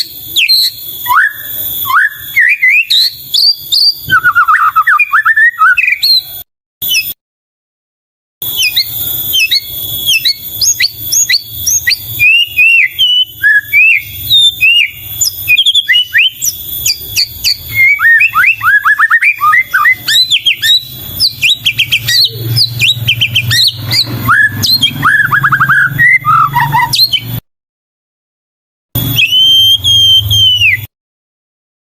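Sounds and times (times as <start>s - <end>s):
bird singing whistled song: 0.0s - 7.2s, 8.4s - 27.4s, 29.0s - 30.9s.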